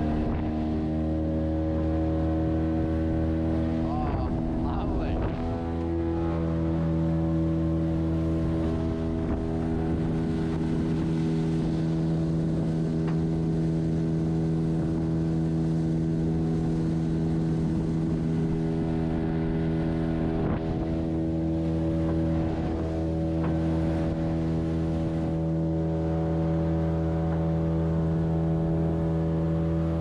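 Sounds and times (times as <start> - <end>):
small boat engine running: 0.0 - 30.0.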